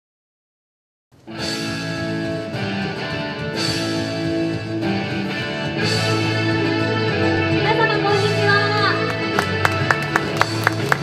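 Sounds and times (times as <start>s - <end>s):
opening music with struck chords: 1.3s - 11.0s.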